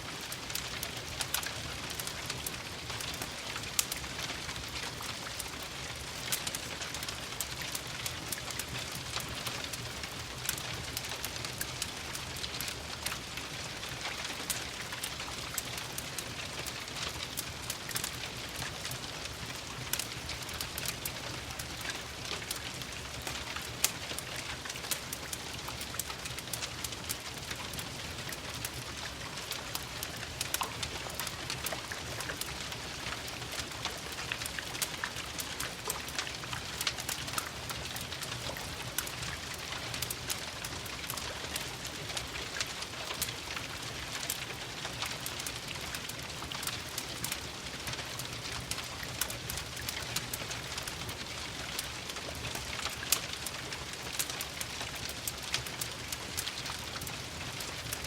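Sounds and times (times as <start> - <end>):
rain pattering: 0.0 - 58.0
wood fire crackling in fireplace: 0.0 - 58.0.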